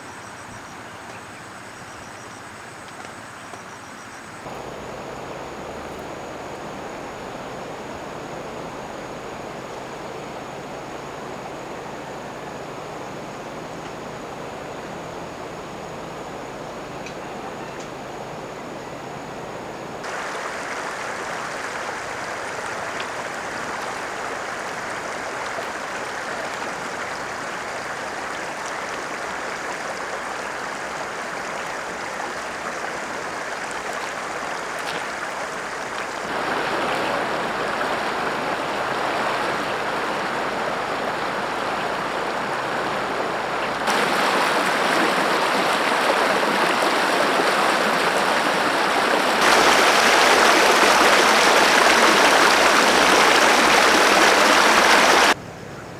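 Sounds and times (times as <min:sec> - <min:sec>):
river water rushing over rocks: 0:04.4 - 0:55.4.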